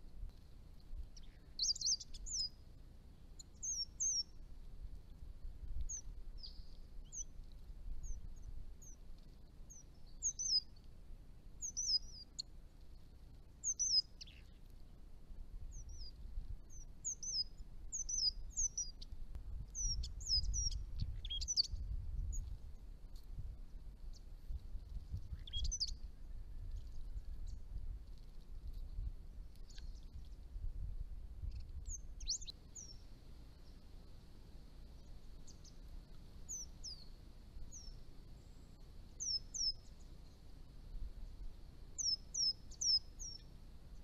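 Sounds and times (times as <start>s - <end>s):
birds chirping high and thin: 0.0s - 30.6s, 31.4s - 44.0s.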